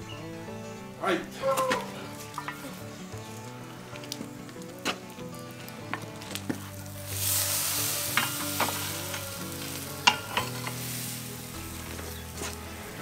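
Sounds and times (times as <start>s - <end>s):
hot coals hissing and sizzling: 0.0s - 13.0s
sharp crackles: 1.6s - 13.0s.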